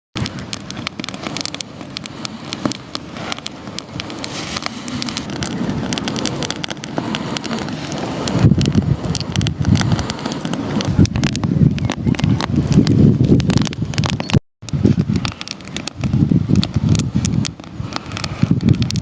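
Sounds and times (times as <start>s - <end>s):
campfire crackling and popping: 0.2s - 19.0s
wind buffeting microphone: 0.2s - 19.0s.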